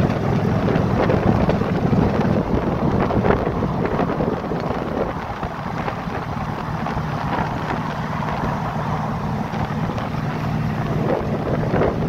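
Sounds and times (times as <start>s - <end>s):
car engine cruising: 0.0s - 12.0s
wind buffeting microphone: 0.0s - 12.0s.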